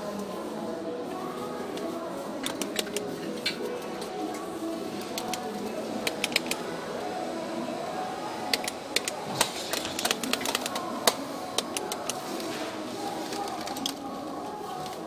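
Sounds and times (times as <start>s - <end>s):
shop background hubbub: 0.0s - 15.0s.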